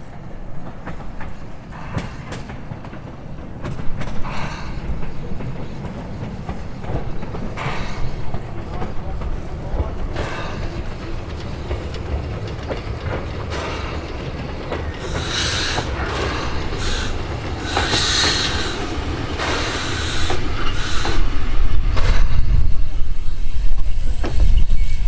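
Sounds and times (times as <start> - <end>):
steam exhaust chuffing: 0.9 - 25.0.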